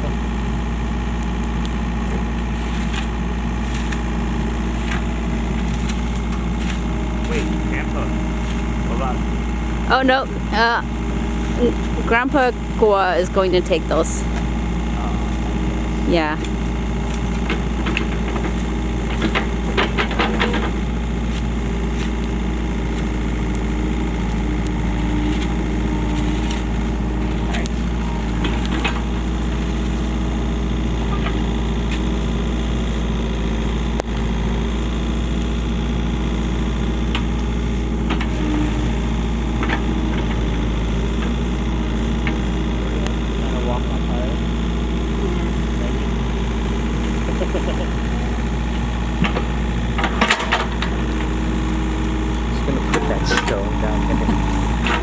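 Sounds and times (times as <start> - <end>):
excavator engine running: 0.0 - 55.0.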